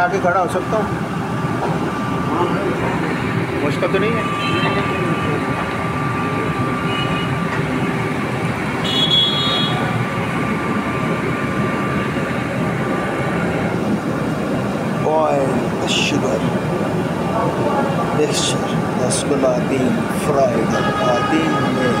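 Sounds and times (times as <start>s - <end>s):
gas burners roaring: 0.0s - 22.0s
thin steady whine: 0.0s - 22.0s.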